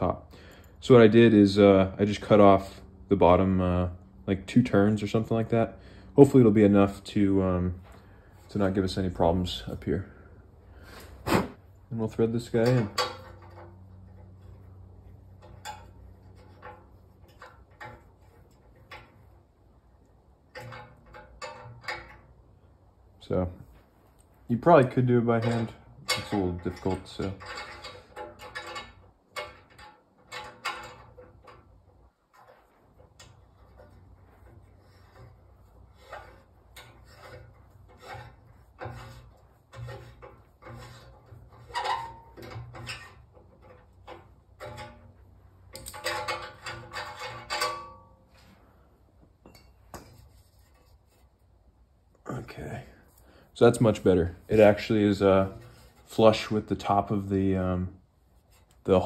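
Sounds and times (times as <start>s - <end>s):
faint metal clicks and scrapes: 5.0s - 57.6s, 58.2s - 59.0s.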